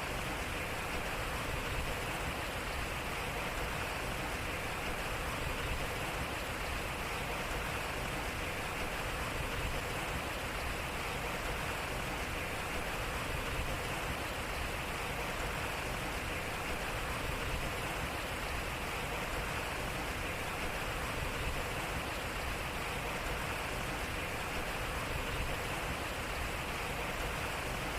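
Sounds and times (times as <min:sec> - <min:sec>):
water rushing off water wheel: 0:00.0 - 0:27.9.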